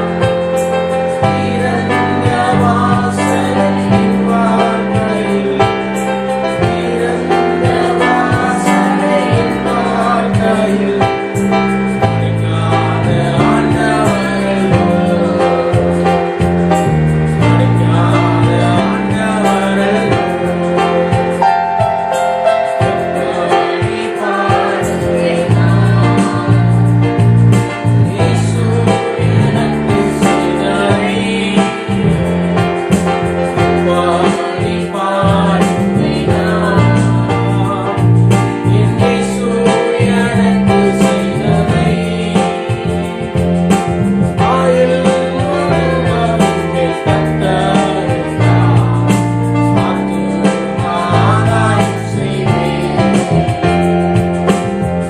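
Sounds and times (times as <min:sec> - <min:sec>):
person singing worship song: 0:00.0 - 0:55.0
steady bass line: 0:00.0 - 0:55.0.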